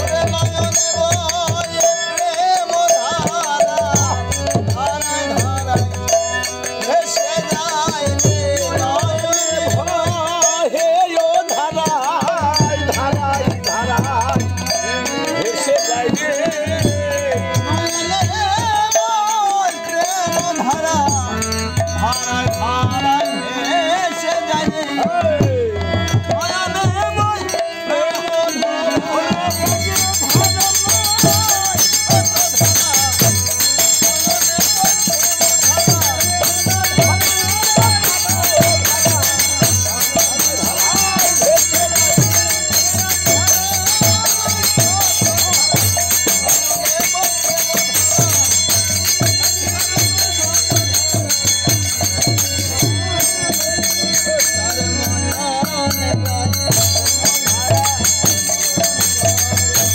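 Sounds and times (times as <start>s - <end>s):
harmonium: 0.0s - 59.9s
men singing: 0.0s - 59.9s.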